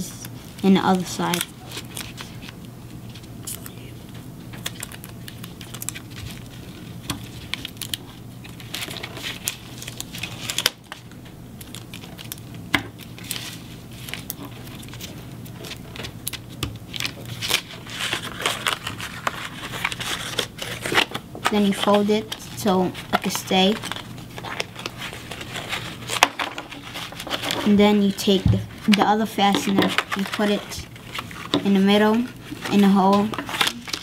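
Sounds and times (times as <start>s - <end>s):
low steady hum: 0.0s - 34.0s
paper rustling and crinkling: 0.3s - 3.8s, 4.6s - 34.0s.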